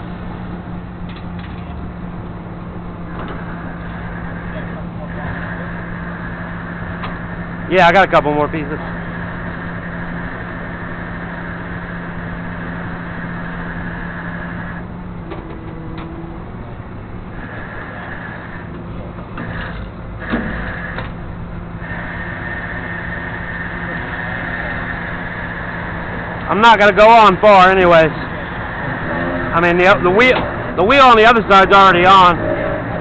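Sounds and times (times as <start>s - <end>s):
truck engine running with whine: 0.0s - 33.0s.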